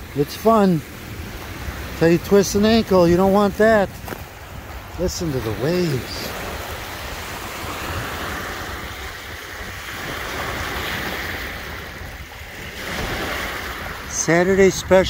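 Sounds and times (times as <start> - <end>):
lake waves washing onto shore: 0.0 - 15.0.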